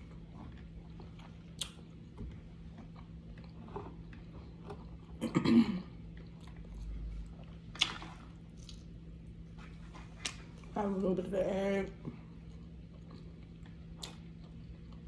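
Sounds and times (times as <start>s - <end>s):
chewing and biting food: 0.0s - 5.2s, 5.9s - 10.7s, 12.2s - 15.0s.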